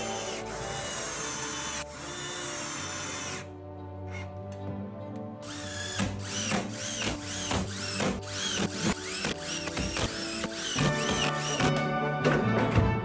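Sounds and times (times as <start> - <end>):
cordless drill whining: 0.0 - 4.3, 5.4 - 11.8
background music: 0.0 - 13.0.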